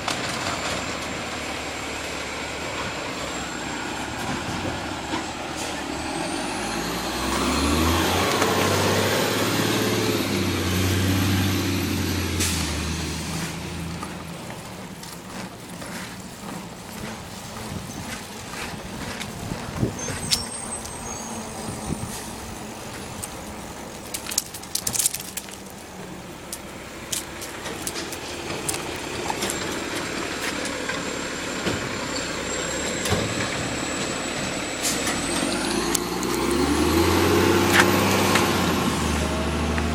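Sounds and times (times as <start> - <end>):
garbage truck engine revving: 0.0 - 39.9.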